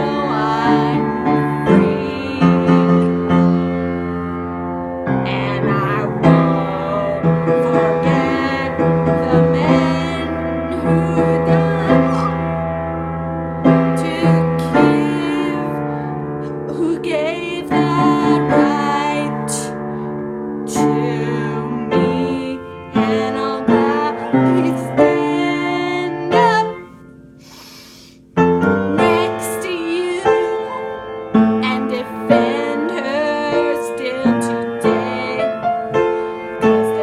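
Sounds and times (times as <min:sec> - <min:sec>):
woman singing: 0:00.0 - 0:04.4, 0:05.1 - 0:12.6, 0:13.6 - 0:19.9, 0:20.7 - 0:27.0, 0:28.6 - 0:37.0
piano accompaniment: 0:00.0 - 0:37.0.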